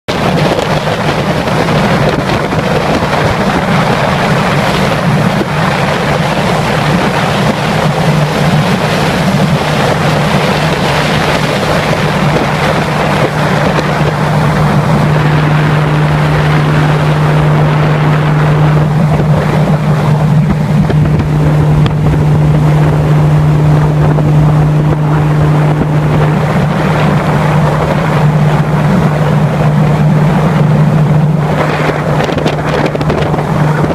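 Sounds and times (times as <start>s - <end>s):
boat motor humming: 0.1s - 33.9s
water noise: 0.1s - 33.9s
wind on microphone: 0.1s - 33.9s.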